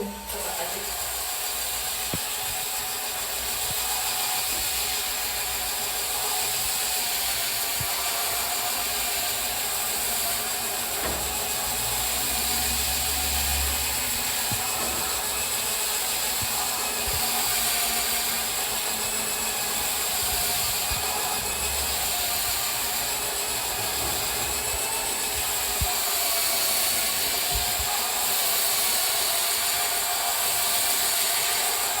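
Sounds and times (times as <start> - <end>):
electric scrubber motor running: 0.0 - 32.0.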